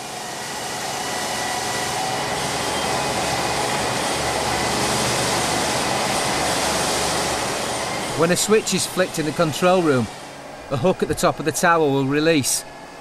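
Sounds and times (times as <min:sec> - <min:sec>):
tyres whirring from electric motors: 0:00.0 - 0:13.0.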